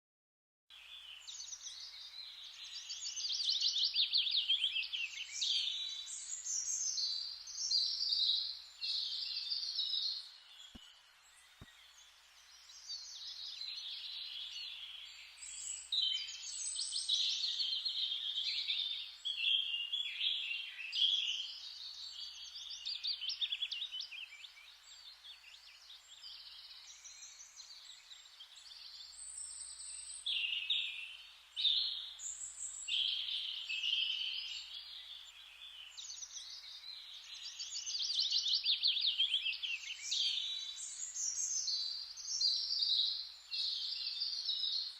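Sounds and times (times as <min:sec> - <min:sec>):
birds chirping and singing: 0:00.9 - 0:44.9.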